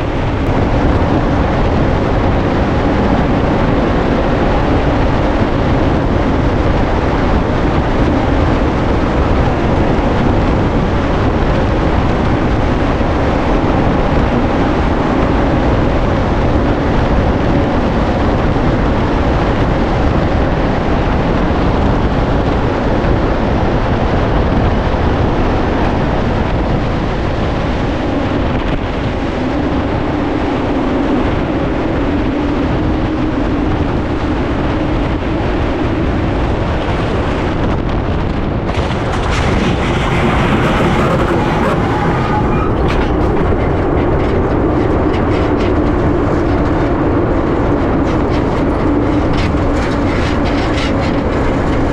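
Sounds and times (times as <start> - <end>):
roar of high wind: 0.0 - 51.9.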